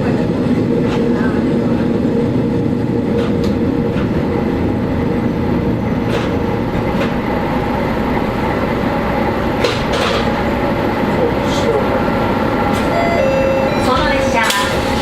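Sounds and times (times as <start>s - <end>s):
diesel railcar engine and rolling hum: 0.0s - 15.0s.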